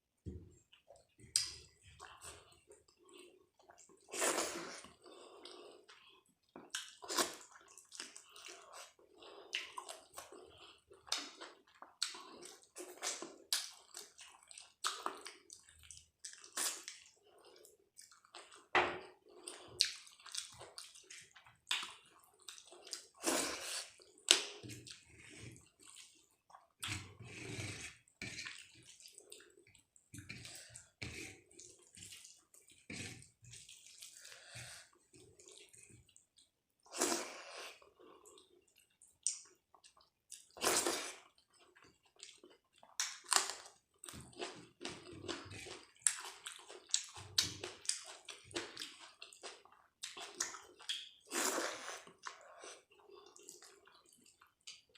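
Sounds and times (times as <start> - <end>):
person chewing and lip-smacking: 0.7 - 36.6, 38.2 - 54.9.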